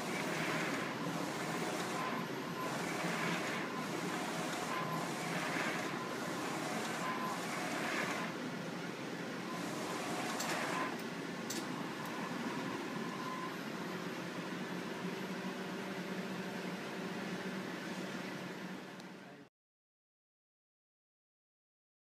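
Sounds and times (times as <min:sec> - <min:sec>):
textile printer humming: 0:00.0 - 0:18.9.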